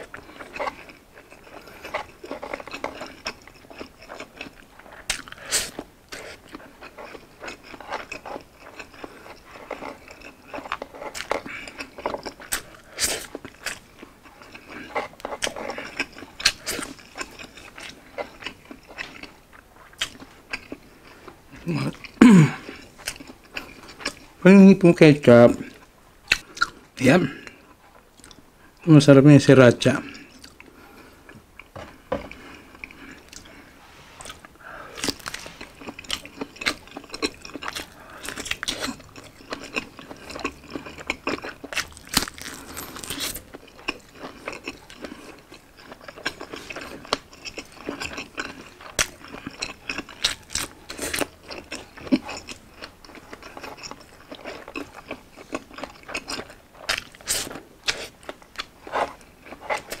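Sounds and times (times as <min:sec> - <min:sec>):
man chewing food: 0:00.0 - 0:24.4, 0:25.5 - 0:28.8, 0:30.0 - 1:00.0.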